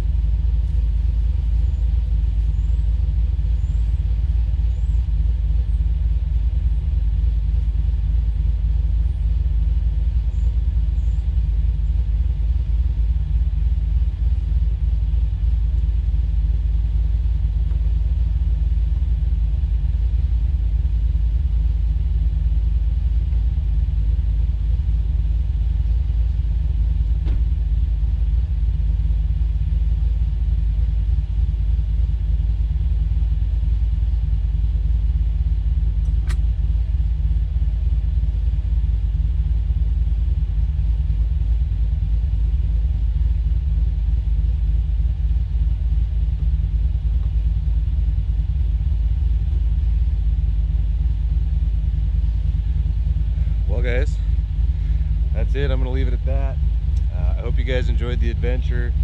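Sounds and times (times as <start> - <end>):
vehicle driving rumble: 0.0 - 59.0.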